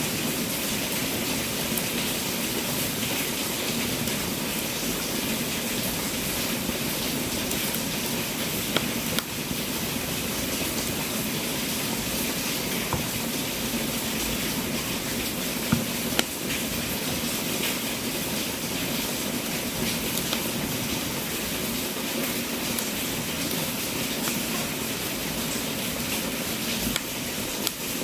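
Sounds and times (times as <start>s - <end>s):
wood fire hissing: 0.0s - 28.0s
fire crackles and pops: 0.1s - 28.0s.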